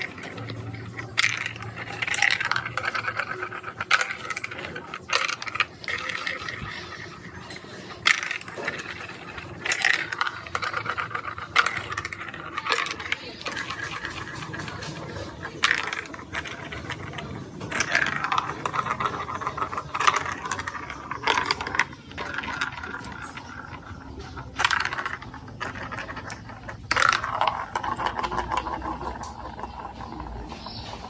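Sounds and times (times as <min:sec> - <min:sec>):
marbles clattering down a plastic run: 0:00.0 - 0:31.0.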